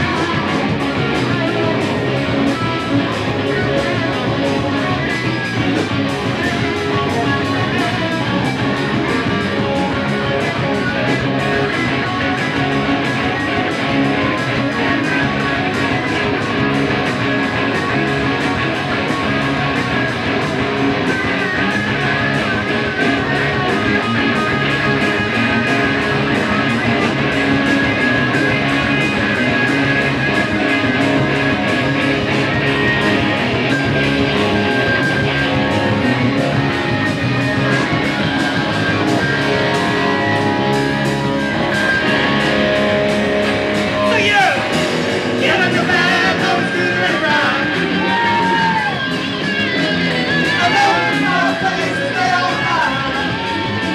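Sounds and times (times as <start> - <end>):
bass guitar: 0.0 - 53.9
drums: 0.0 - 53.9
electric guitars: 0.0 - 53.9.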